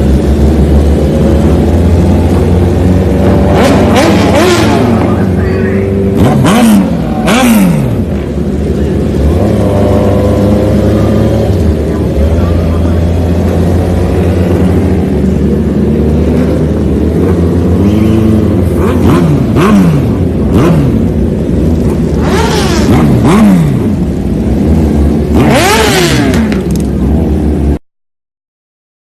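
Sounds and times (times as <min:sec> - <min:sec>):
motorcycle engine revving: 0:00.0 - 0:27.8.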